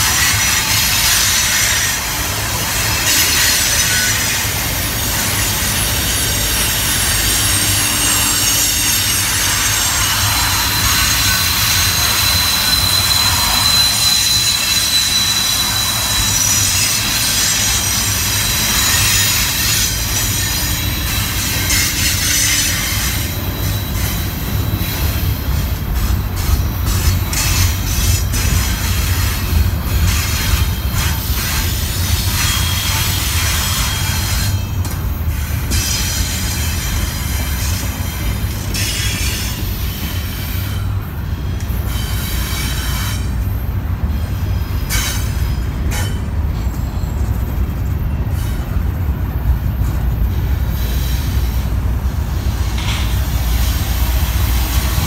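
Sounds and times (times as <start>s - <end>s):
high wheel squeal: 0.0s - 49.2s, 49.8s - 55.0s
train cars rumbling: 0.0s - 55.0s
wheels clicking on rails: 0.0s - 55.0s.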